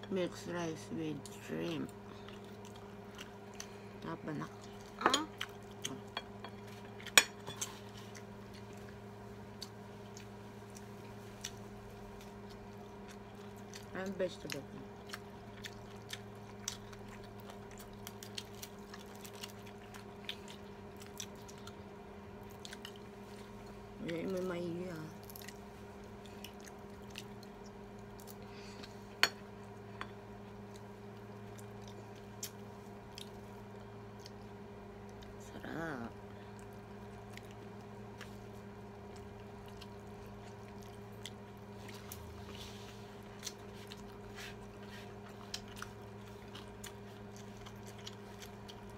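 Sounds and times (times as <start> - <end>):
steady low hum: 0.0 - 48.9
faint chewing: 1.2 - 48.9.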